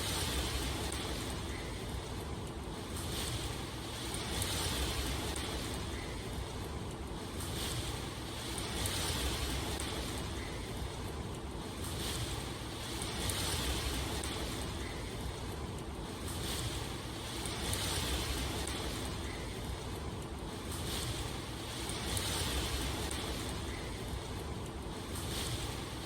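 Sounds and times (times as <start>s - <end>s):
rushing water: 0.0s - 6.6s, 7.4s - 19.9s, 20.5s - 26.0s.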